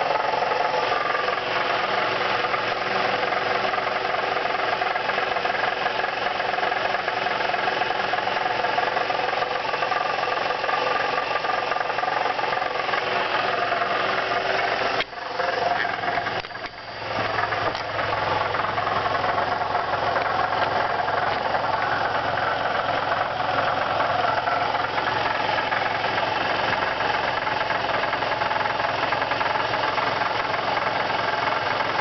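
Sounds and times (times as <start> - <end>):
car engine idling: 0.0 - 32.0
rattle under the hood: 0.0 - 32.0.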